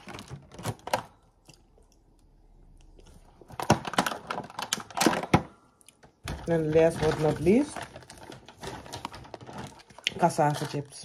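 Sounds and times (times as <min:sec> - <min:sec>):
plastic containers crackling: 0:00.0 - 0:01.7, 0:03.2 - 0:11.0.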